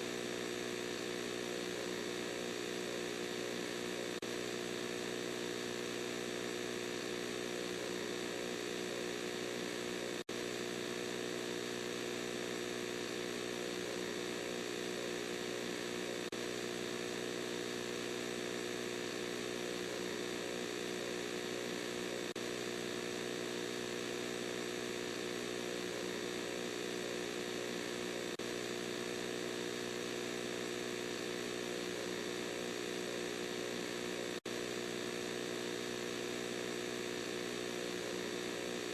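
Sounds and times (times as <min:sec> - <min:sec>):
electronic droning buzz: 0:00.0 - 0:38.9.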